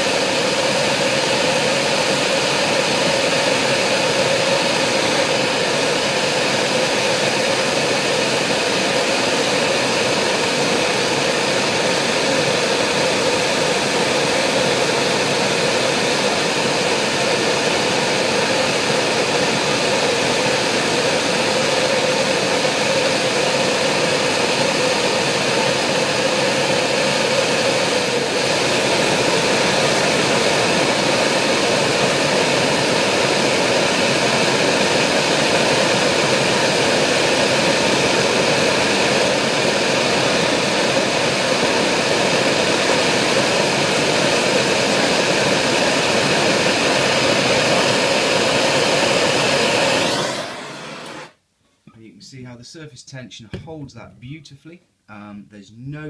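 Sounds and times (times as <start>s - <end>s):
torch flame rushing: 0.0s - 51.4s.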